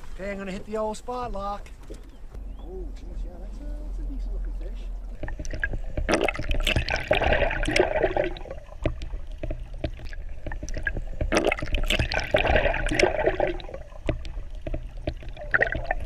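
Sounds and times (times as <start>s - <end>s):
water sloshing and gurgling: 1.4s - 2.8s, 3.6s - 16.0s
steady low rumble: 2.1s - 16.0s.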